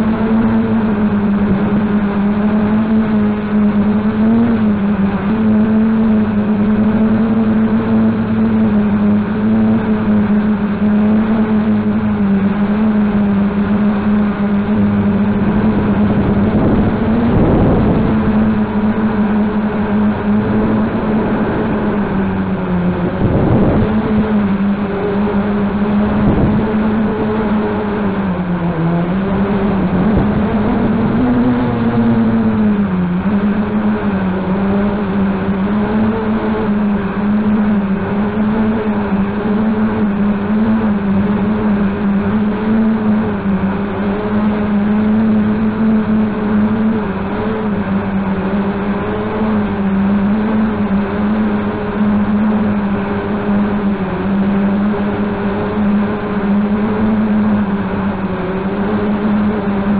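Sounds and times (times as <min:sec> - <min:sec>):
drone propellers hovering: 0:00.0 - 0:59.9.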